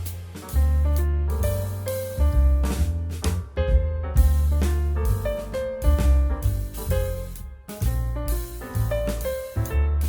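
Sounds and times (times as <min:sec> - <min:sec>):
piano notes: 0:00.0 - 0:10.0
steady bass line: 0:00.0 - 0:10.0.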